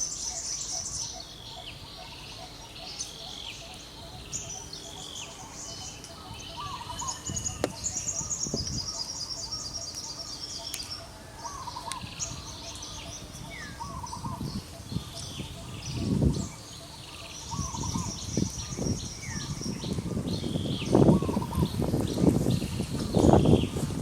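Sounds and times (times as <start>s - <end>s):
lower warbled bird call: 0.0s - 21.9s
birds twittering: 0.0s - 24.0s.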